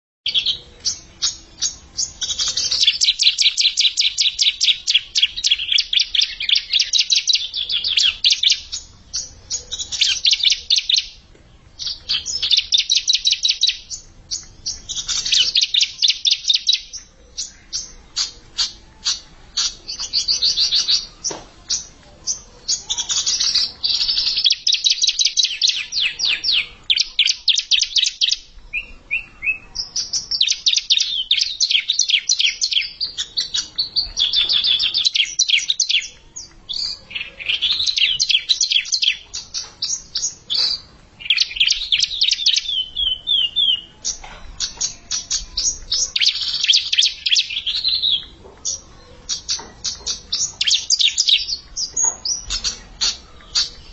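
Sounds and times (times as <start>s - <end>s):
bird singing high trills: 0.3s - 53.9s.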